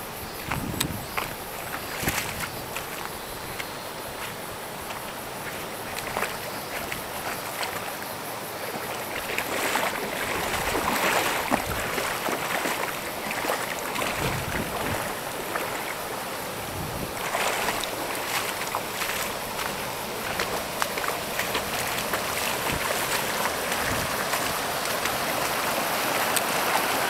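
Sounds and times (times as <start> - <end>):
stream water splashing over rocks: 0.4 - 27.0.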